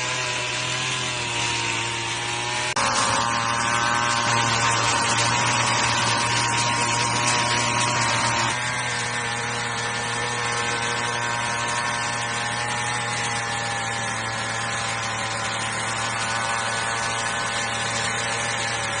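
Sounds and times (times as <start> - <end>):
small tiller engine running: 0.0 - 19.0.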